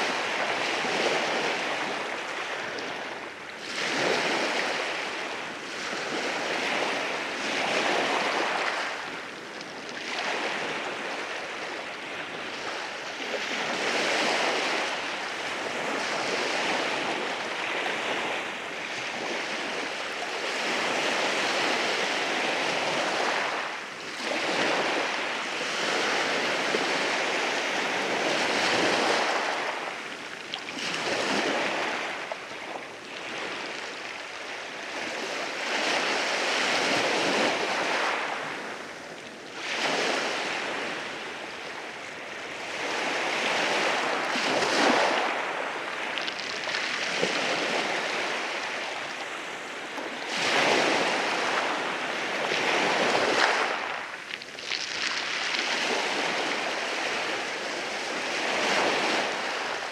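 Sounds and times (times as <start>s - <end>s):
sea waves breaking over rocks: 0.0s - 59.9s.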